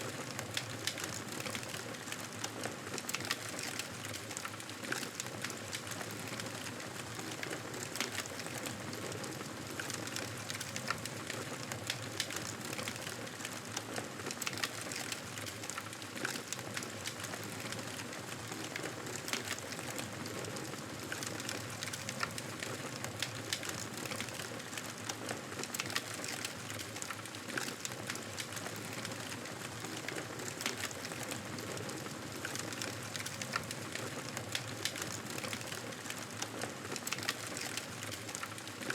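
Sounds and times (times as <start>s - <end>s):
wood fire crackling: 0.1s - 38.9s.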